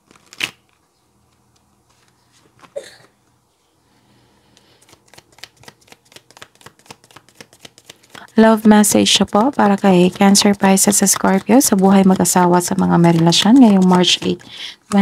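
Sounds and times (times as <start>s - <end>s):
cards being shuffled: 0.0s - 2.8s, 4.5s - 15.0s.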